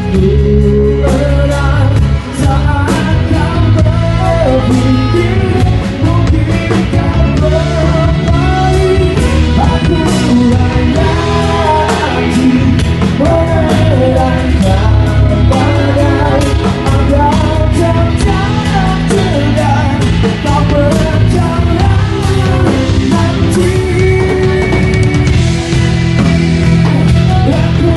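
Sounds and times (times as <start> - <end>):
rock song instrumental: 0.0 - 27.9.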